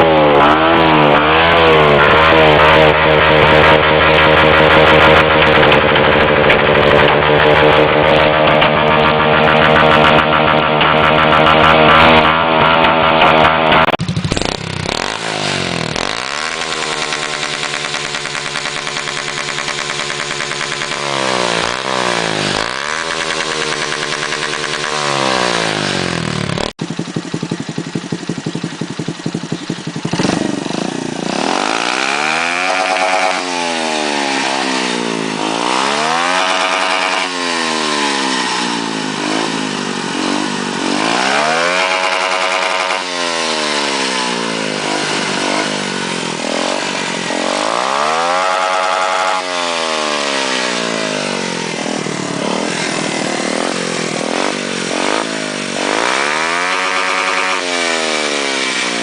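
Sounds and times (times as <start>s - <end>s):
motorcycle engine revving: 0.0s - 59.0s
motorcycle idling: 0.0s - 59.0s.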